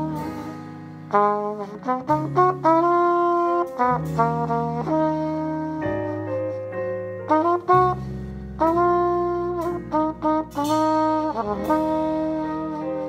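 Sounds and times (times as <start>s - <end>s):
jazz trio accompaniment: 0.0s - 13.0s
muted trumpet playing jazz: 0.0s - 13.0s.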